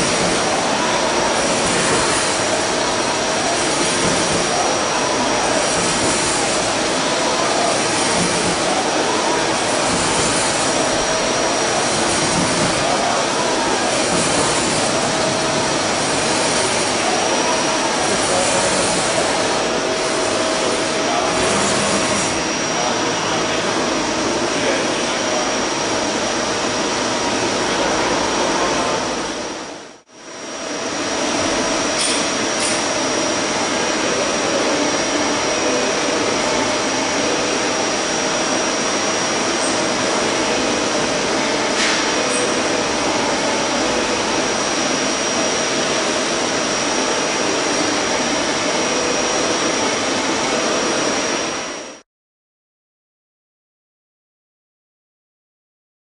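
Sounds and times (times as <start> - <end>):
high machine whine: 0.0 - 52.0
machine whir and hiss: 0.0 - 52.0.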